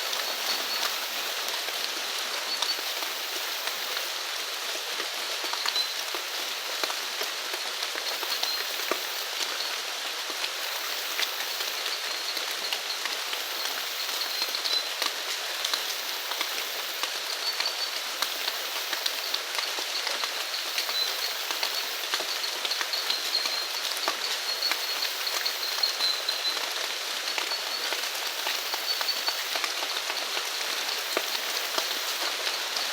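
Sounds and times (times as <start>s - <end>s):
rain falling: 0.0s - 32.9s
raindrops pattering on a surface: 0.0s - 32.9s.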